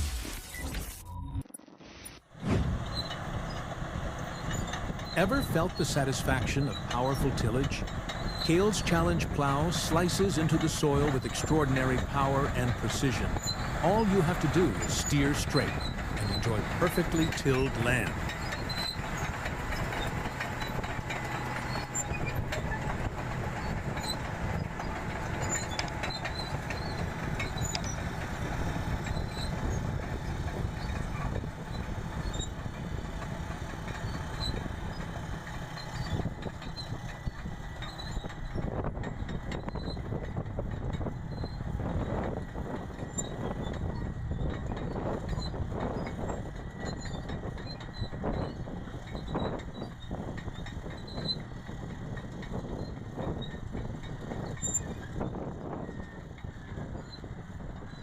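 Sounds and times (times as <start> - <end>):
farm machine engine running: 2.5 - 58.0.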